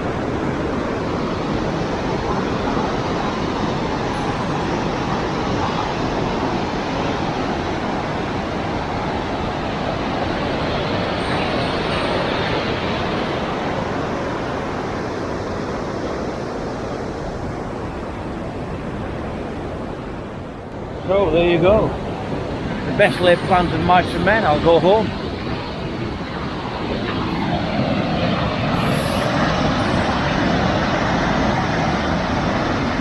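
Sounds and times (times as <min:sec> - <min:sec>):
river water pouring over weir: 0:00.0 - 0:17.9, 0:19.0 - 0:33.0.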